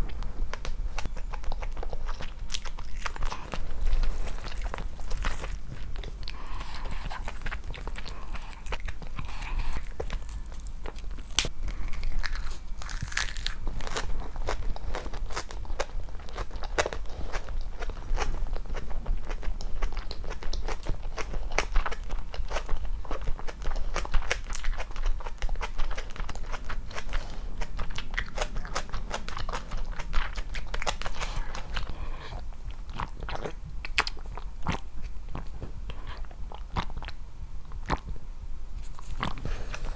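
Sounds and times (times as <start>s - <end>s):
chewing and crunching food: 0.0s - 38.2s, 38.8s - 39.9s.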